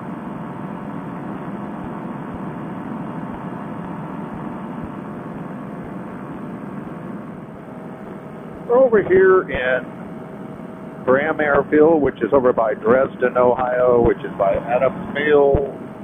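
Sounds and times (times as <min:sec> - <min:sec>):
paramotor engine and propeller drone: 0:00.0 - 0:16.0.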